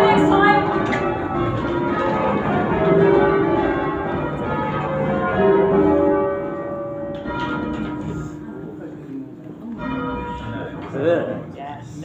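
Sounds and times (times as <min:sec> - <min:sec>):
church bells ringing: 0:00.0 - 0:11.6.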